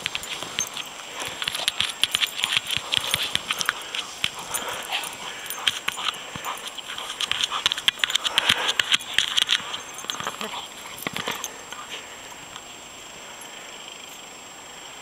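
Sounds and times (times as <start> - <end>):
dog digging in snow: 0.0 - 12.3
dog breathing: 0.0 - 14.1.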